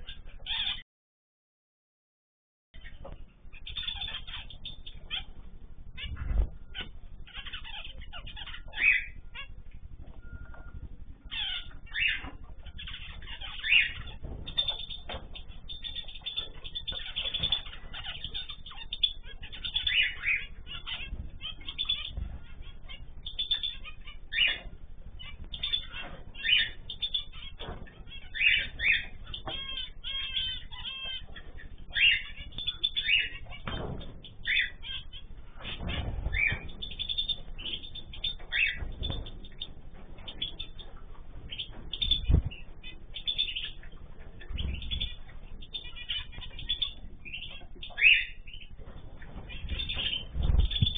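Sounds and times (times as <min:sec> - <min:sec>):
bird warbling: 0:00.0 - 0:00.8, 0:02.8 - 0:50.9
cage birds chirping: 0:00.0 - 0:00.8, 0:02.8 - 0:50.9
wings flapping: 0:03.1 - 0:50.9.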